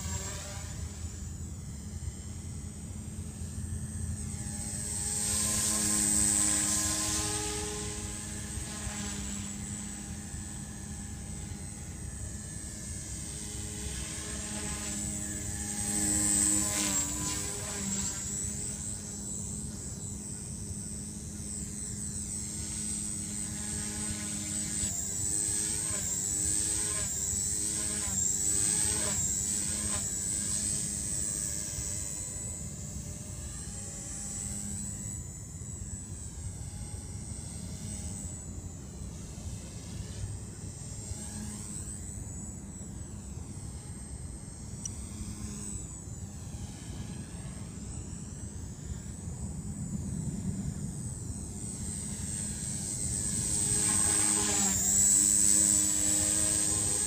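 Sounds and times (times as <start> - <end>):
toy helicopter motor whine: 0.0 - 57.0.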